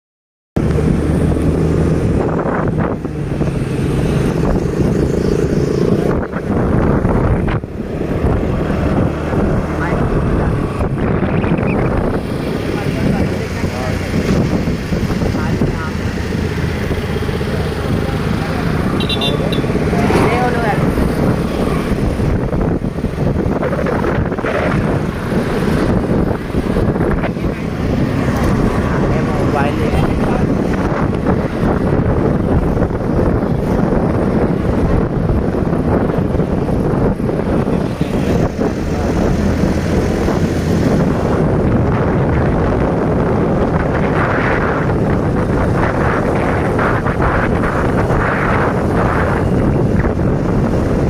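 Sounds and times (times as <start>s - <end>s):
vehicle engine running: 0.6s - 51.0s
wind on microphone: 0.6s - 51.0s.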